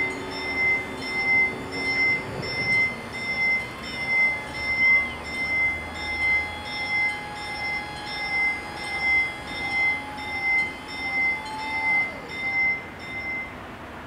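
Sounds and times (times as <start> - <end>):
crossing bells ringing: 0.0 - 13.8.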